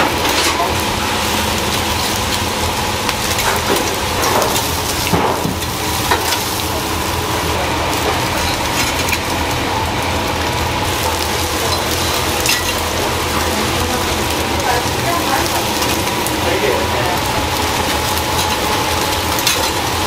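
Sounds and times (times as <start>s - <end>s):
coals crackling and popping: 0.0s - 20.0s
fish sizzling over charcoal: 0.0s - 20.0s.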